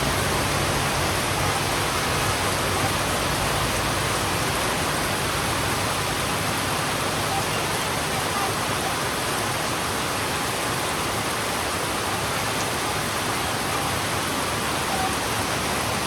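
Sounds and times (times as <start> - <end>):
heavy rain on a road: 0.0 - 16.0.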